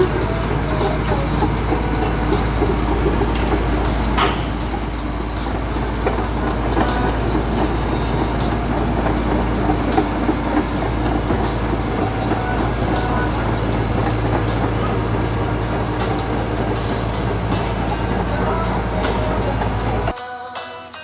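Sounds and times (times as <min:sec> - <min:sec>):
dense clatter: 0:00.0 - 0:20.1
bulldozer engine rumble: 0:00.0 - 0:20.2.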